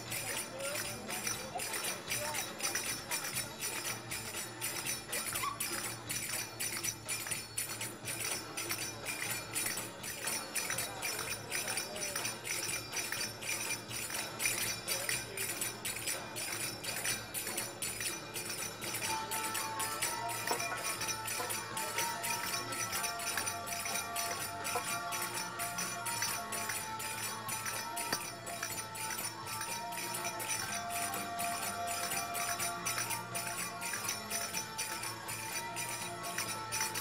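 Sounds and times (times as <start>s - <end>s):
belly dance music: 0.0s - 37.0s.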